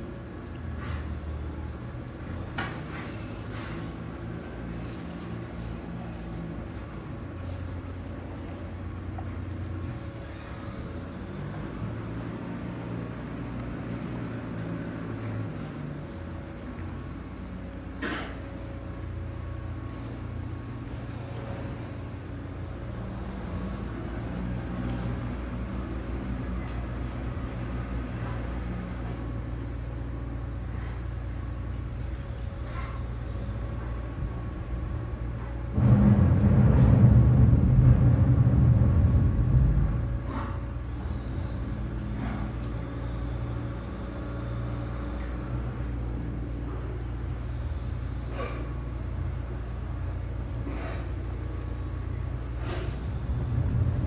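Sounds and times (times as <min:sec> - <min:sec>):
low machinery drone: 0:00.0 - 0:54.0.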